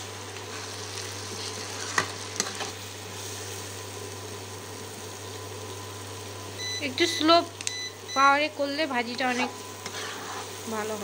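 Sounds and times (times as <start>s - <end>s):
potato and egg sizzling in pan: 0.0s - 11.0s.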